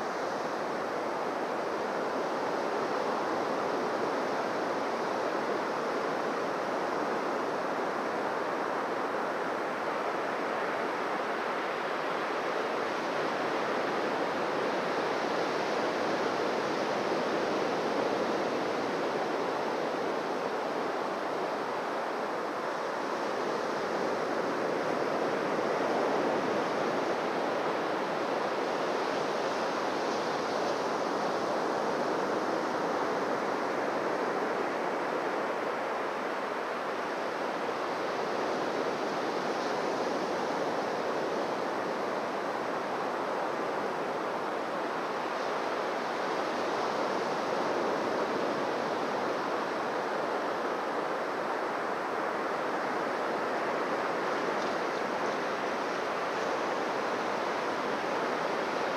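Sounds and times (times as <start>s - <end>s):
waves washing onto beach: 0.0s - 58.9s.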